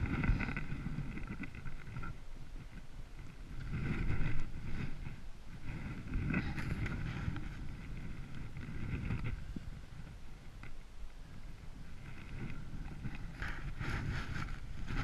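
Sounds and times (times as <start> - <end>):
fabric rubbing on microphone: 0.0 - 10.8, 11.5 - 15.0.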